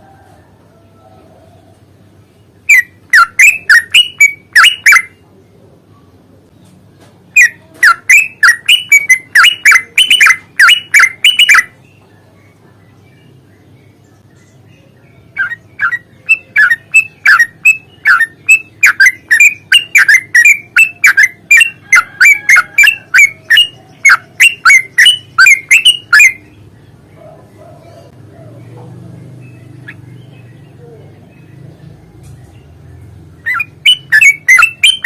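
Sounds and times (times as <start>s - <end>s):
bird chirping song: 0.7s - 35.0s.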